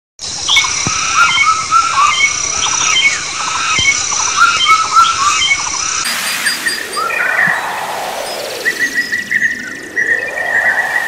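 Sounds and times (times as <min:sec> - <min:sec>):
birds chirping: 0:00.3 - 0:11.0.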